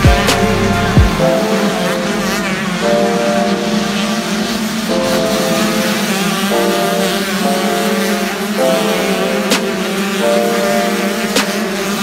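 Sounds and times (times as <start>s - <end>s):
motocross bikes revving past: 0.0s - 12.0s.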